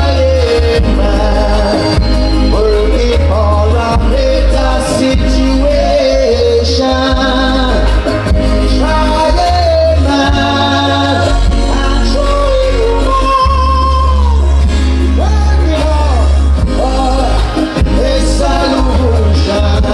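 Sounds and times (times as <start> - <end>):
backing track with heavy bass: 0.0 - 19.9
person singing live: 0.0 - 19.9.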